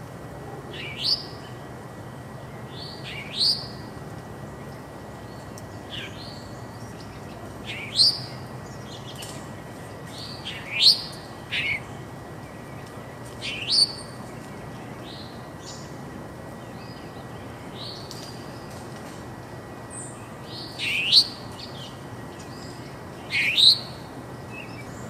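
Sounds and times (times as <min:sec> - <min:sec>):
low background noise: 0:00.0 - 0:25.0
songbirds chirping: 0:00.0 - 0:25.0.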